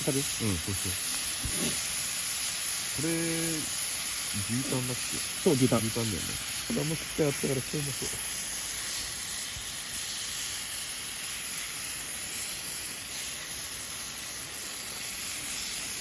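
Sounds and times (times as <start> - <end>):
meat sizzling on griddle: 0.0 - 16.0.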